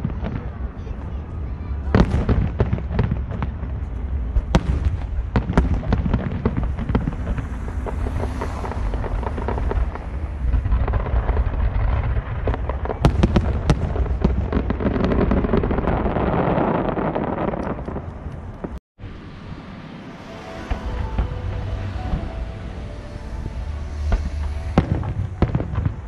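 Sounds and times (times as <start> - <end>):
steady low rumble: 0.0 - 16.1, 16.9 - 26.0
fireworks bangs and crackles: 0.0 - 18.8, 19.5 - 26.0.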